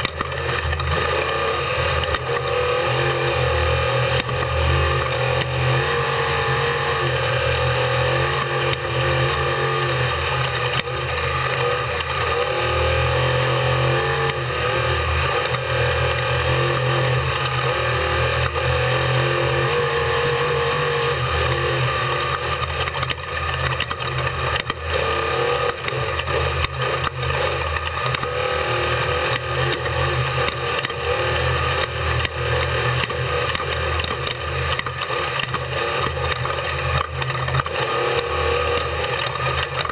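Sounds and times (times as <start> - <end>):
truck engine running hard: 0.0 - 39.9.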